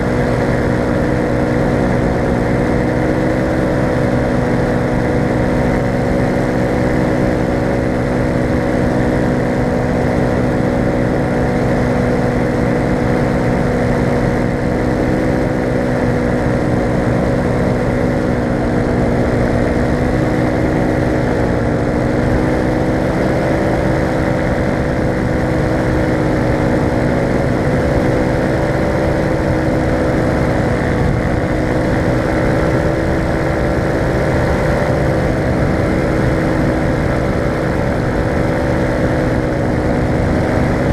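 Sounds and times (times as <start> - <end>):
paramotor engine and propeller: 0.0 - 40.9.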